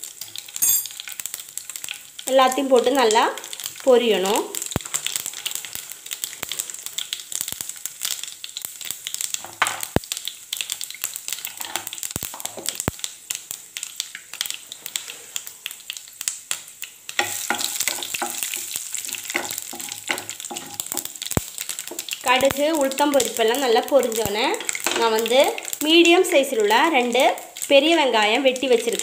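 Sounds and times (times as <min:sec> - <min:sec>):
seeds sizzling and popping in oil: 0:00.0 - 0:29.0.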